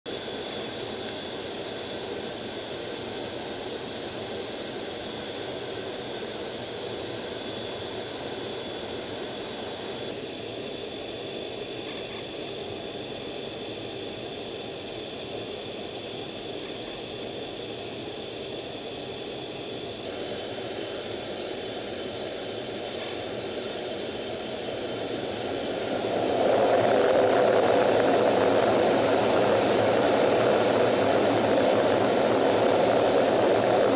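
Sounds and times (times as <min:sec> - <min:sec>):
jet engines roaring: 0:00.1 - 0:33.9
thin high engine whine: 0:00.1 - 0:33.9.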